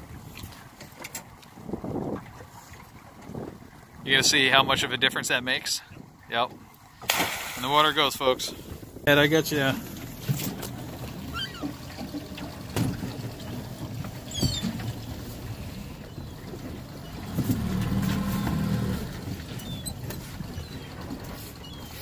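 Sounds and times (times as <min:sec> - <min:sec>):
low rumble of boat: 0:00.0 - 0:22.0.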